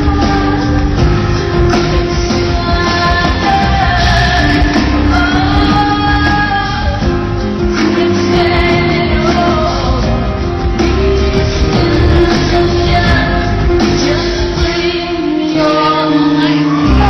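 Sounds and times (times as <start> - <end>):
rock band playing loudly: 0.0 - 17.0.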